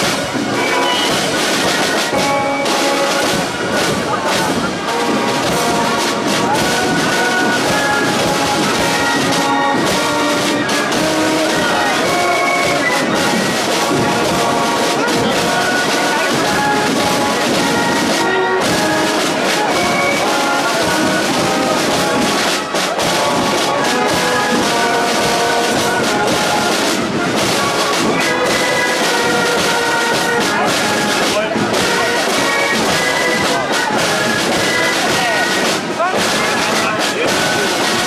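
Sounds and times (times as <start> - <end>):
brass band playing: 0.0 - 38.0.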